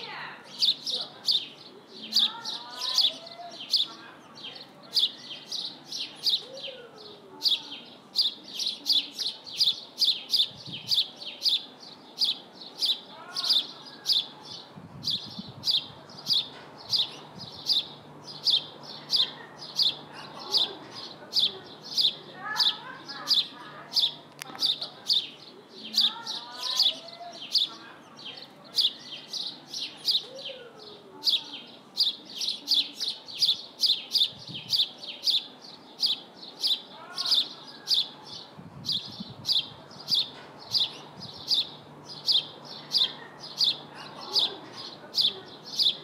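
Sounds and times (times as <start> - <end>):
bird chirping: 0.0 - 46.0.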